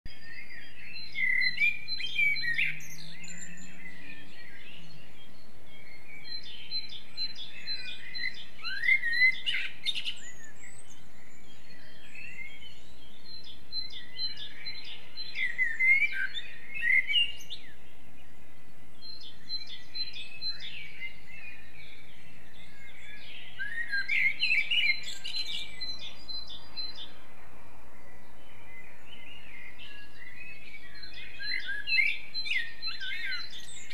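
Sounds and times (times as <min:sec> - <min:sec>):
songbirds singing: 0:00.1 - 0:33.9
steady background hiss: 0:00.1 - 0:33.9.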